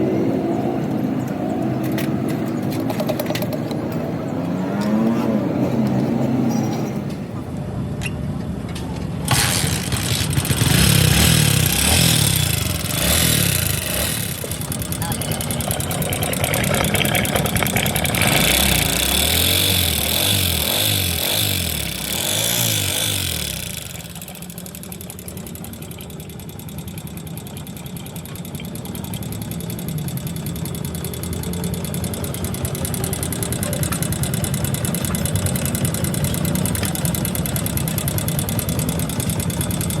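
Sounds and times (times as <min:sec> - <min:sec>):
engine revving and idling: 0:00.0 - 0:07.4, 0:09.3 - 0:40.0.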